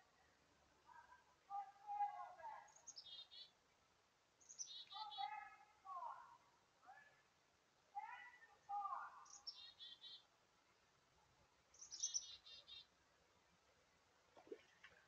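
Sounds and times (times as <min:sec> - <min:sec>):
faint distant bird calls: 0:00.0 - 0:15.0.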